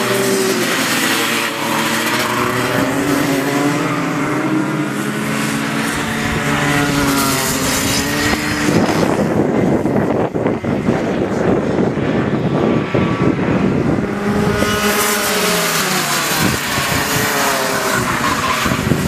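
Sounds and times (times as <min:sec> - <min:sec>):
loud rough rushing noise: 0:00.0 - 0:19.0
racing kart engines: 0:00.0 - 0:19.0.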